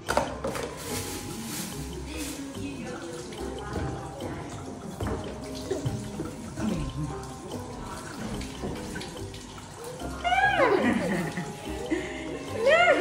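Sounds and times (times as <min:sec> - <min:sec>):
background music: 0:00.0 - 0:13.0
faucet running into sink: 0:00.0 - 0:13.0.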